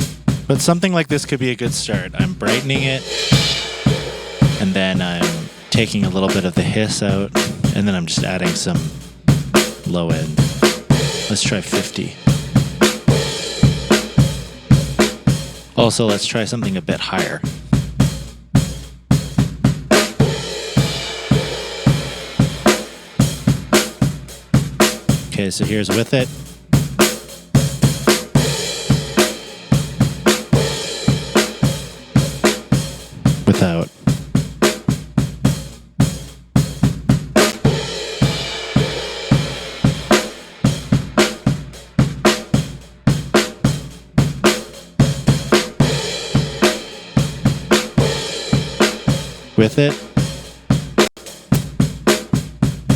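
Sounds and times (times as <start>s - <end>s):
kick and snare drum groove: 0.0s - 52.9s.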